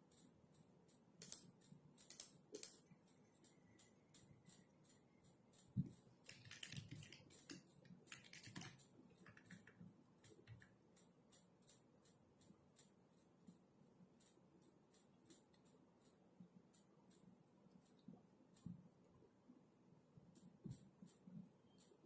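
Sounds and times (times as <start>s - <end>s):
typing on a keyboard: 0.0s - 18.7s.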